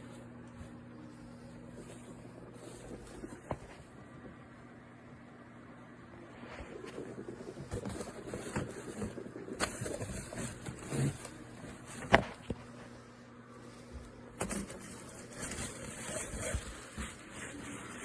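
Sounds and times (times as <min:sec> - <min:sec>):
rustling: 0:00.0 - 0:04.0, 0:06.4 - 0:18.0.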